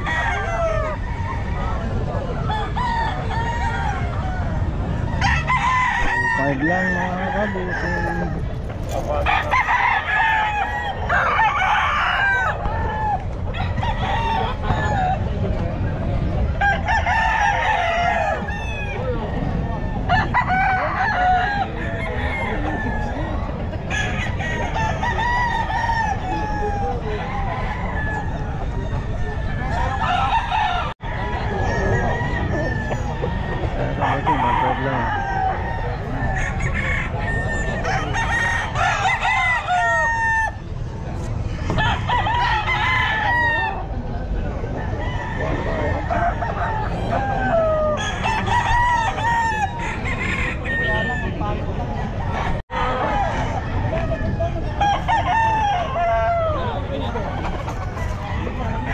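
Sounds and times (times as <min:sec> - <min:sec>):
roosters crowing: 0:00.0 - 0:58.9.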